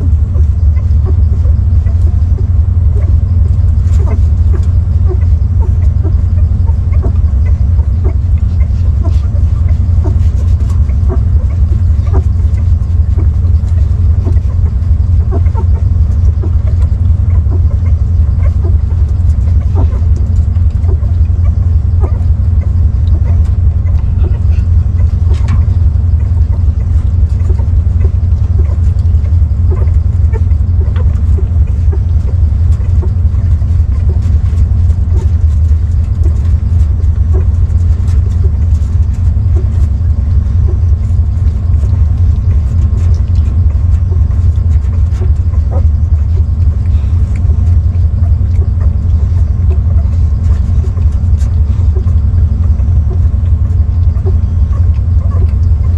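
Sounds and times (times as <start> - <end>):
faint small ticks: 0.0 - 55.9
loud low rumble: 0.0 - 55.9.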